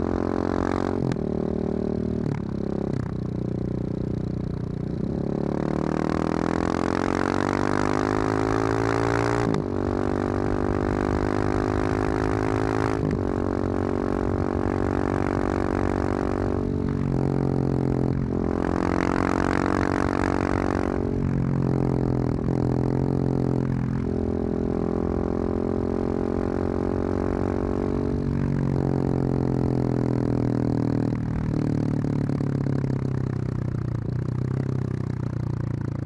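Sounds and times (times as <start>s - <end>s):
motorcycle engine revving through gears: 0.0s - 36.0s.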